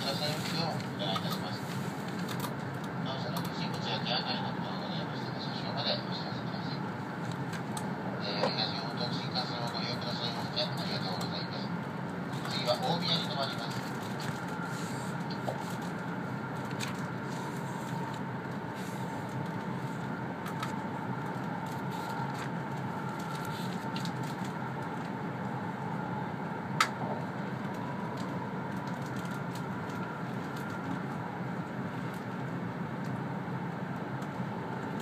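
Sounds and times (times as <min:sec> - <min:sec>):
train low rumble: 0:00.0 - 0:35.0.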